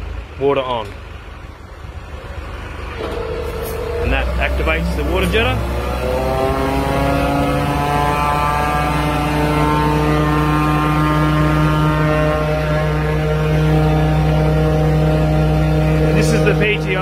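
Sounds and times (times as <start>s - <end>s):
truck engine running at low revs: 0.0s - 17.0s.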